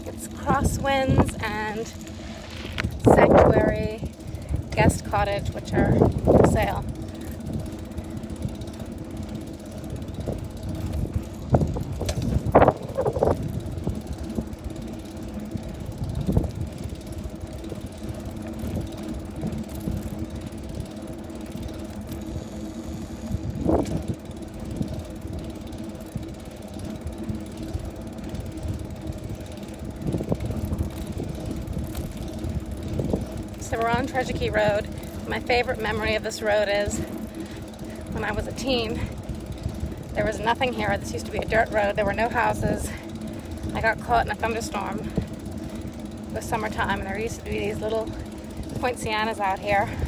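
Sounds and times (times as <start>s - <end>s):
bicycle rolling hum: 0.0s - 50.0s
wind on microphone: 0.0s - 50.0s.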